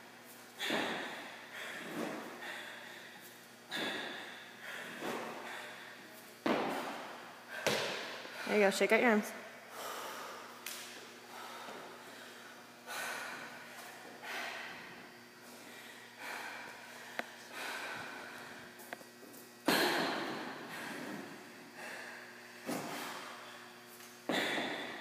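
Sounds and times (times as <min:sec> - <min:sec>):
person breathing hard: 0:00.6 - 0:08.6, 0:09.7 - 0:10.6, 0:11.2 - 0:18.7, 0:19.7 - 0:25.0.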